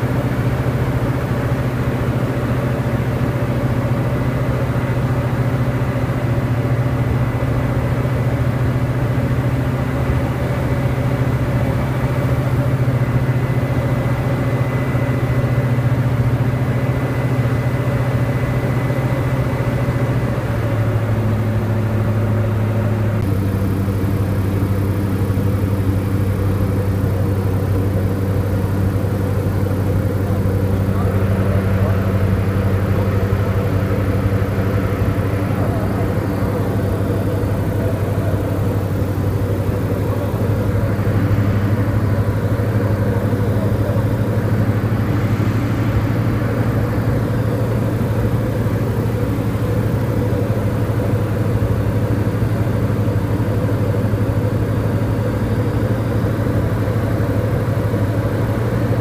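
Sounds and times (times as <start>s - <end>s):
aircraft engine droning: 0.0s - 59.0s.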